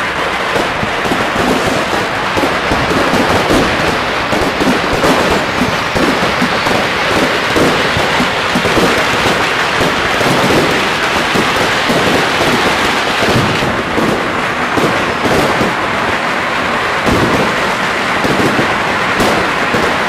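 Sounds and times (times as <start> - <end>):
firecrackers crackling: 0.0 - 20.0
sharp firework bangs: 0.0 - 20.0.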